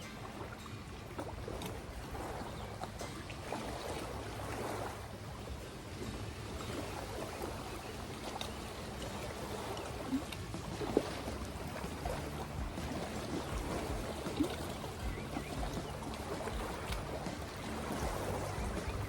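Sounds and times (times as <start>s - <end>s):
water splashing and lapping: 0.0s - 19.0s.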